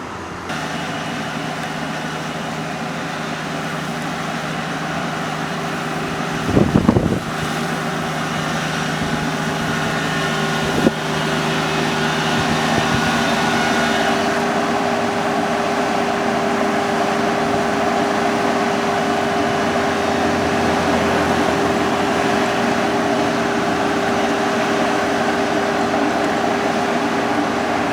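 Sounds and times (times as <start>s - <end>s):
combine harvester engine whining: 0.0s - 27.9s.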